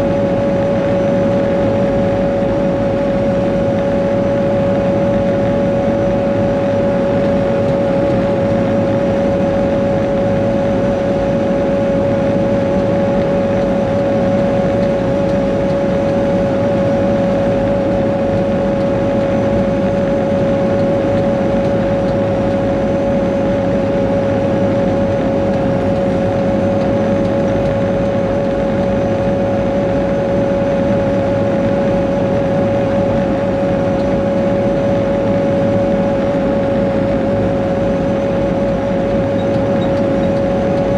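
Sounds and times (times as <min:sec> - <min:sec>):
grader diesel engine running: 0:00.0 - 0:40.9
steady high whine: 0:00.0 - 0:40.9.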